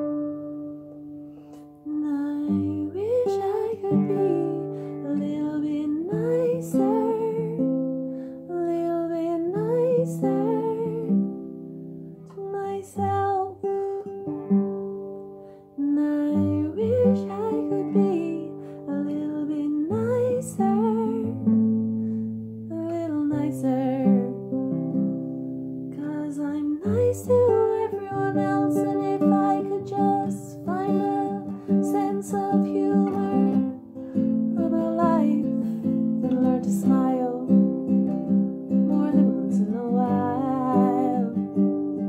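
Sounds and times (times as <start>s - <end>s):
acoustic guitar: 0.0s - 42.0s
woman singing: 1.8s - 11.4s, 12.3s - 14.4s, 15.7s - 21.8s, 22.7s - 24.6s, 25.9s - 42.0s.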